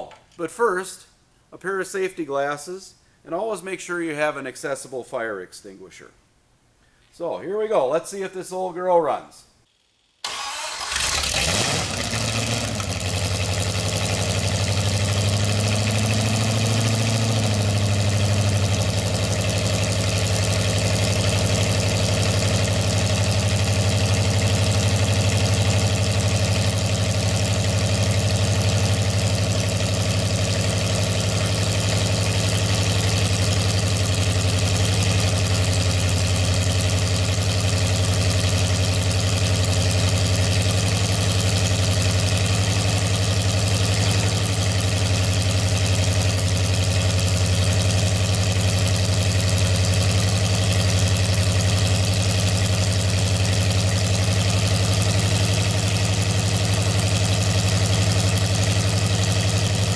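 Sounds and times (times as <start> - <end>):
car engine starting and idling: 10.2 - 59.9.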